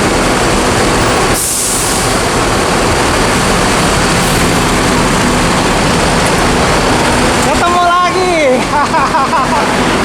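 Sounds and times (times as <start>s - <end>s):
loud machinery drone: 0.0s - 10.0s.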